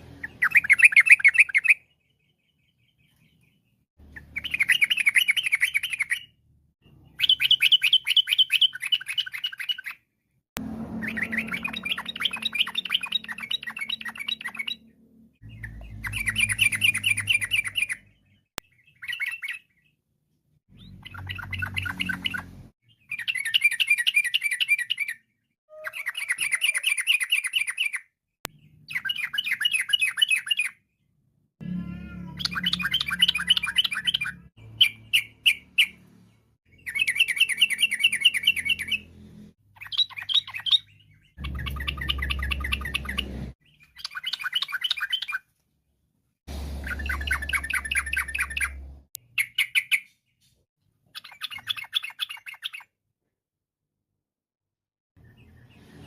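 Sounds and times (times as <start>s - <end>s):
bird chattering song: 0.1s - 10.1s, 10.9s - 20.0s, 20.7s - 30.8s, 32.3s - 39.1s, 39.7s - 45.5s, 46.8s - 52.9s.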